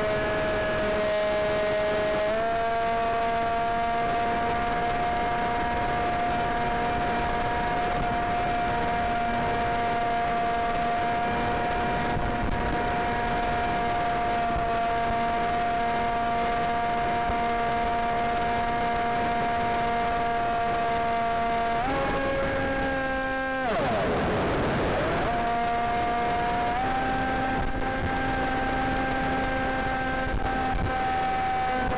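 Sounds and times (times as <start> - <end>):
electric propeller whine: 0.0 - 31.9.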